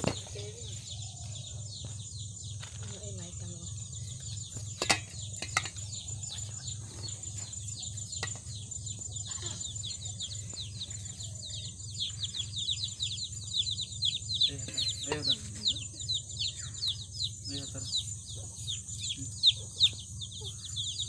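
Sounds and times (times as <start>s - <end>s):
high insect-like buzz: 0.0s - 21.0s
small birds chirping: 0.0s - 21.0s.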